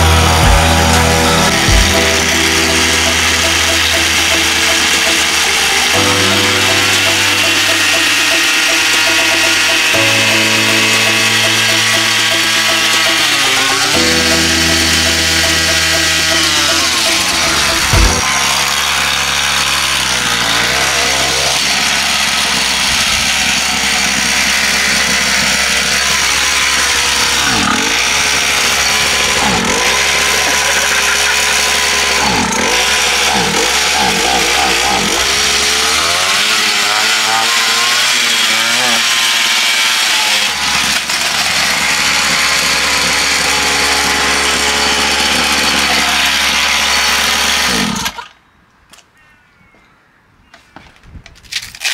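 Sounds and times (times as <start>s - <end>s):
two-stroke motorbike engine buzzing: 0.0s - 48.2s.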